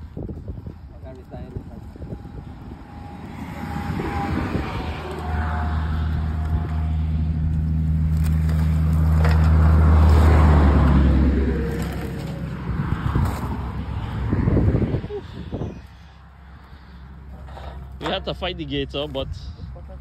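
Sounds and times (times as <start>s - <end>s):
vehicle engine passing by: 1.3s - 18.0s.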